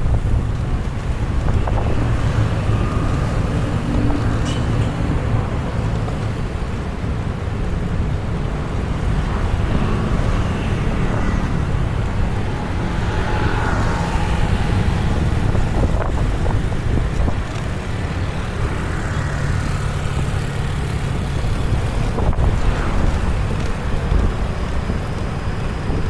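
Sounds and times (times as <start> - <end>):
motor traffic: 0.0 - 26.0
wind and road noise on microphone: 0.0 - 26.0.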